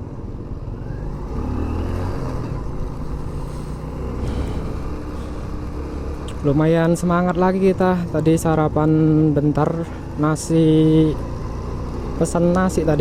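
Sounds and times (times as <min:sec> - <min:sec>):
motorcycle engine accelerating: 0:00.0 - 0:09.2, 0:10.0 - 0:13.0
road and wind noise: 0:00.0 - 0:13.0.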